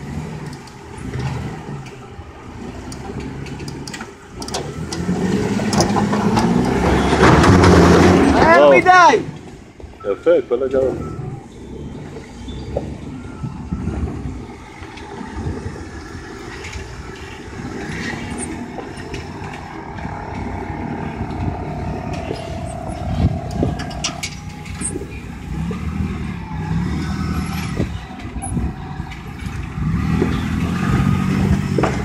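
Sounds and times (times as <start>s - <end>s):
suv engine working under load: 0.0s - 32.0s.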